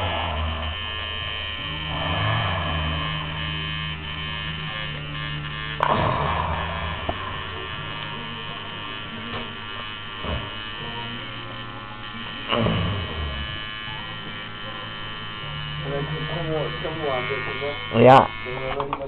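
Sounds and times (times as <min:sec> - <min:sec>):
tattoo machine buzzing: 0:00.0 - 0:19.0.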